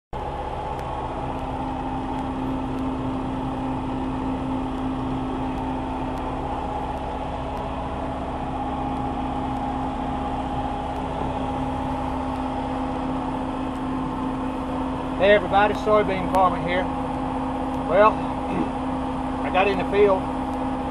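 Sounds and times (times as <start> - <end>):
combine harvester running: 0.2 - 20.9.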